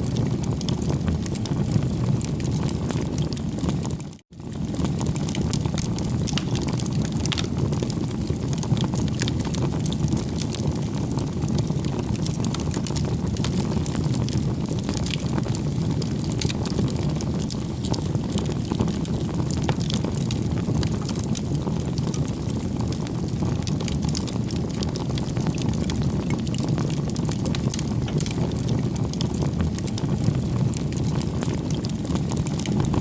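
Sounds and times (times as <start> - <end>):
bonfire flame rushing: 0.0 - 33.0
burning wood crackling and popping: 0.0 - 33.0.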